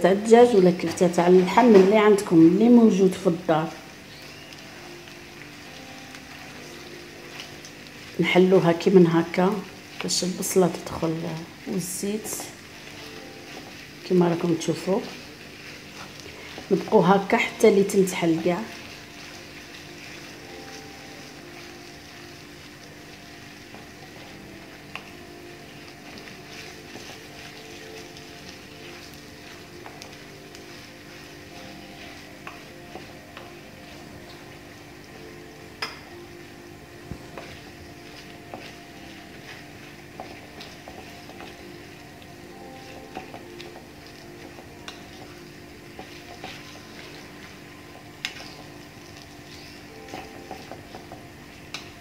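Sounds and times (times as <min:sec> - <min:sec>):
meat sizzling in a pan: 0:00.0 - 0:52.0
wooden spoon stirring: 0:00.0 - 0:52.0.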